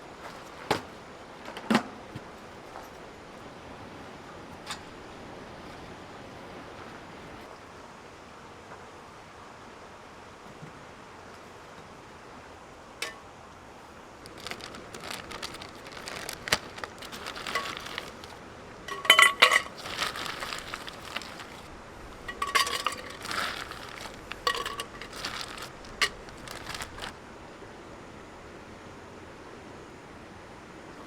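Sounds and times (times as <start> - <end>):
outdoor hiss: 0.0 - 31.0.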